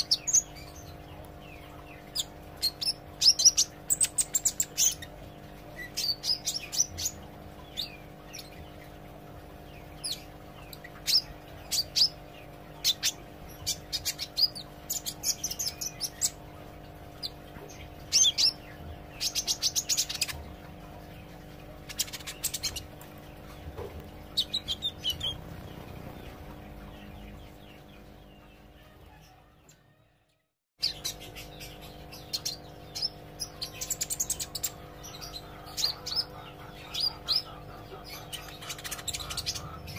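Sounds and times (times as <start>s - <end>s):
bird chirping and trilling: 0.0s - 29.8s, 30.8s - 39.9s
low electrical hum: 0.0s - 39.9s.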